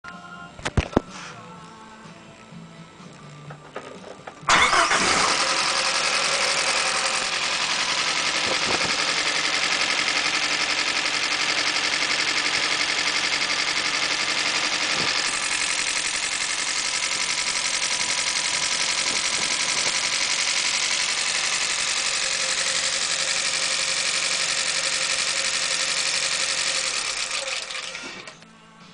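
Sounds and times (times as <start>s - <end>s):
car engine running with knock: 3.5s - 28.4s.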